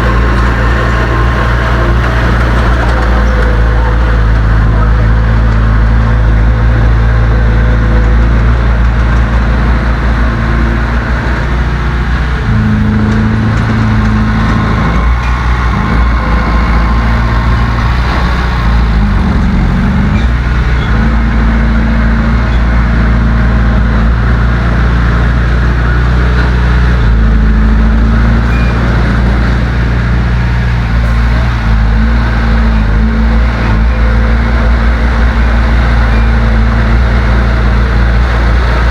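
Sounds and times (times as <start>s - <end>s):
heavy diesel engine revving: 0.0s - 38.9s.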